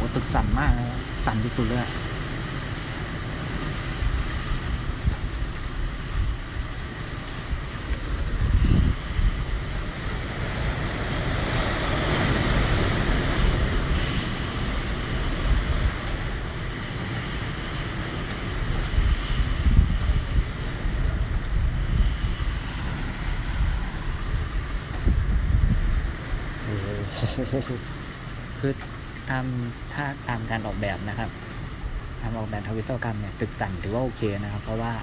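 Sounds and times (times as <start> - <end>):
wind roaring past building: 0.0 - 35.0.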